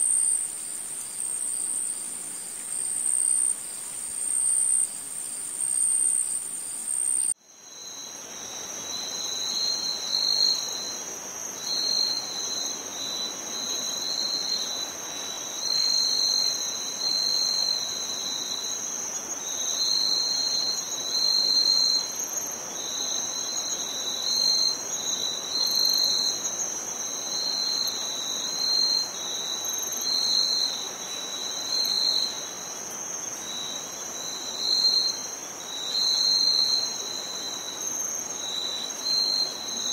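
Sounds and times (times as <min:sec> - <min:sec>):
insect high-pitched trill: 0:00.0 - 0:39.9
lower pulsing insect chirp: 0:00.0 - 0:39.9.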